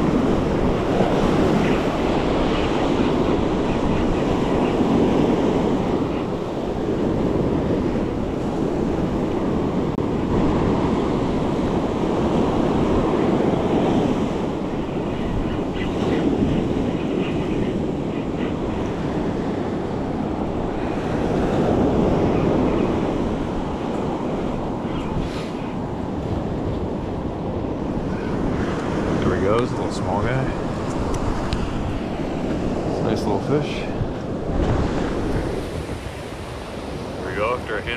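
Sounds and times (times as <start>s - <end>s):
surf breaking on a beach: 0.0s - 37.9s
wind buffeting microphone: 0.0s - 37.9s.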